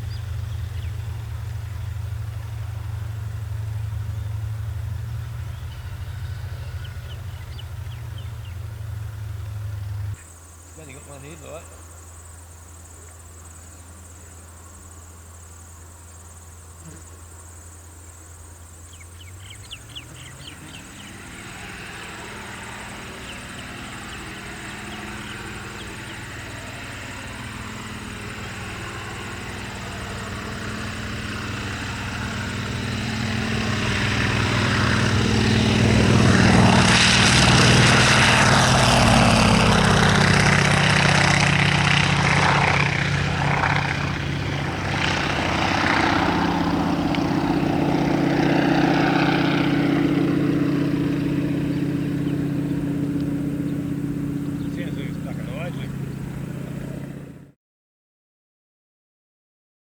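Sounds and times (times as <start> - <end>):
propeller aircraft engine: 0.0 - 57.6.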